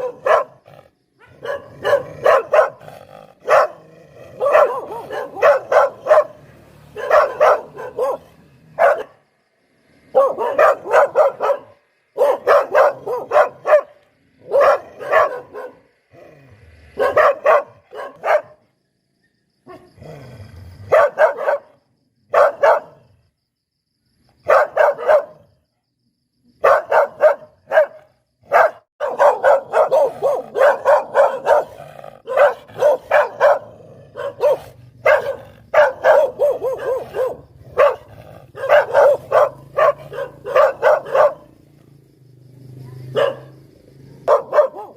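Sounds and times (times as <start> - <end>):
dog barking: 0.0 - 9.2, 10.0 - 15.9, 16.9 - 18.6, 19.6 - 20.0, 20.8 - 23.0, 24.4 - 25.6, 26.6 - 41.6, 42.7 - 44.9.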